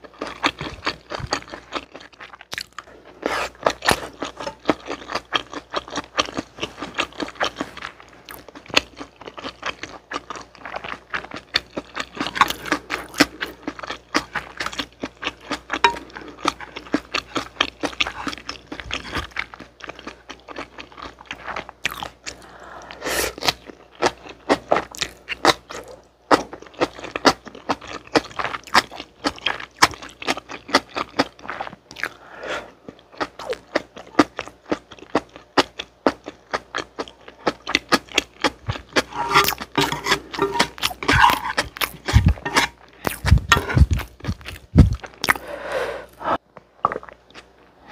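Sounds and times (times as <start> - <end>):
chewing and crunching noodles: 0.0 - 45.5, 46.1 - 47.9.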